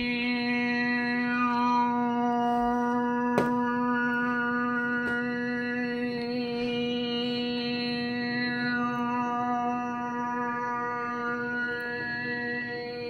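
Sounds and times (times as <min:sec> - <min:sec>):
steady droning hum: 0:00.0 - 0:13.0.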